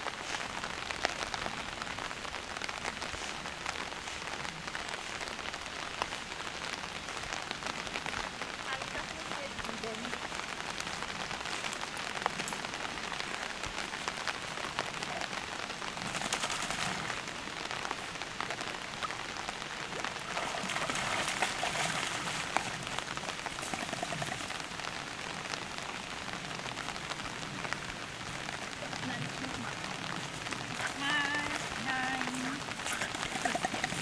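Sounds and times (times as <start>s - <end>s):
rain falling on water: 0.0s - 34.0s.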